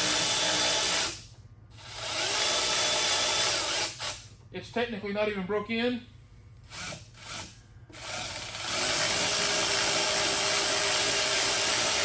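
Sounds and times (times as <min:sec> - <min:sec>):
handheld power tool: 0:00.0 - 0:04.3, 0:06.6 - 0:12.0.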